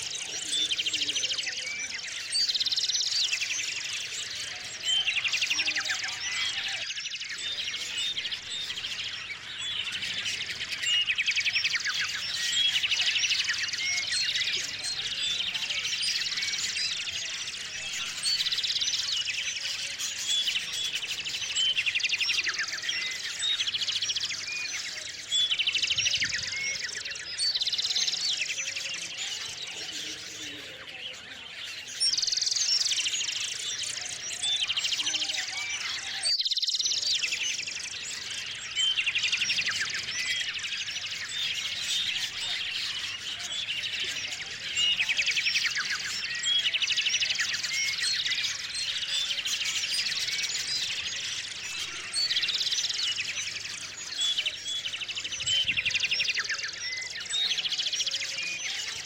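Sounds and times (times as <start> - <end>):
songbirds chirping and chattering: 0.0 - 59.0.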